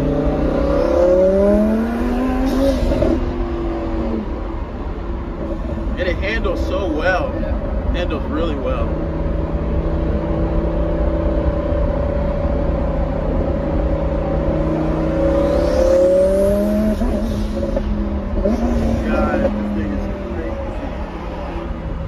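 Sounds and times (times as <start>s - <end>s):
car engine from inside cabin: 0.0s - 22.0s.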